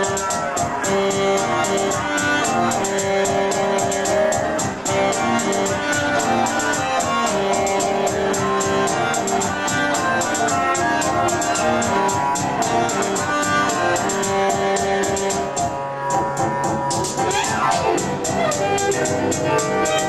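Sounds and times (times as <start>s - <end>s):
keyboard notes: 0.0s - 20.0s
percussion ticking beat: 0.0s - 20.0s
saxophone: 0.0s - 20.0s.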